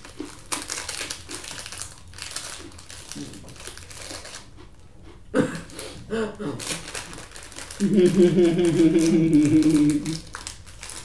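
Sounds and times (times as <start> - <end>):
plastic wrapper crinkling: 0.0 - 4.5, 6.6 - 11.0.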